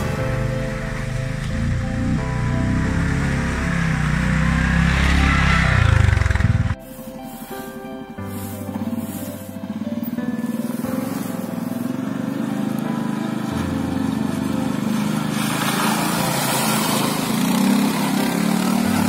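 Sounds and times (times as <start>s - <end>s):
quad engine running: 0.0s - 19.0s
wheels splashing through mud: 0.0s - 19.0s.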